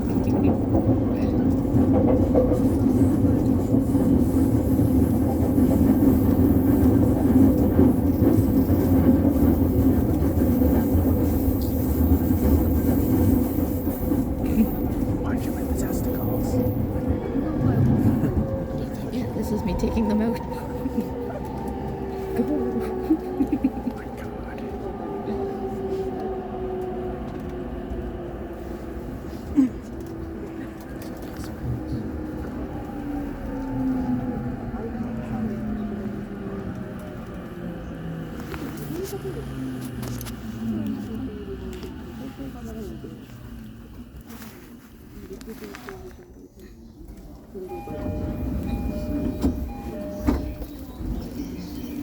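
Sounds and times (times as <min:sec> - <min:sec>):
train rumbling inside carriage: 0:00.0 - 0:52.0.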